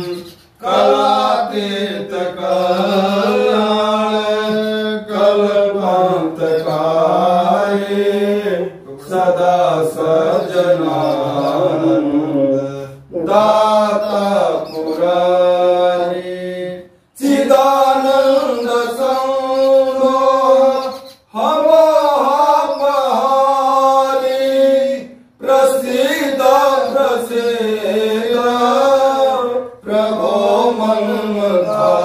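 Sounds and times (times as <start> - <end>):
man chanting: 0.0 - 32.0.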